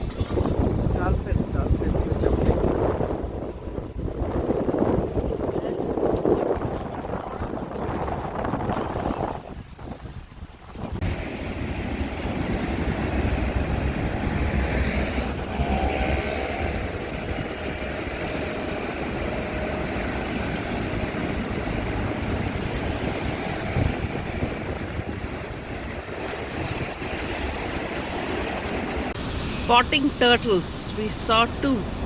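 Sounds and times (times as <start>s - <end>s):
wind buffeting microphone: 0.0s - 30.4s
boat engine rumble: 0.0s - 32.0s.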